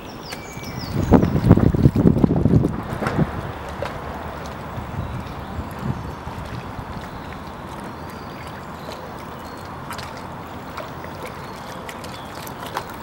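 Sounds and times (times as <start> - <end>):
lake water lapping: 0.0 - 13.0.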